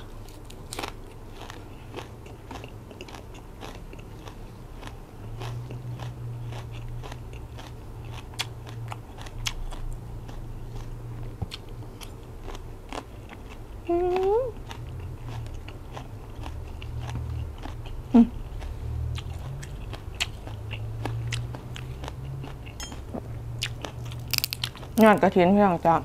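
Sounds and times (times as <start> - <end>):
chewing and crunching: 0.0 - 25.3.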